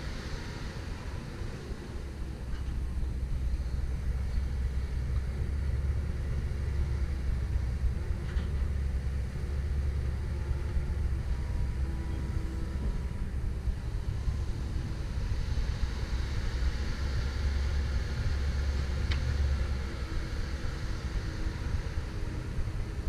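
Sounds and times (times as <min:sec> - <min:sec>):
excavator diesel engine rumbling: 0:00.0 - 0:23.0.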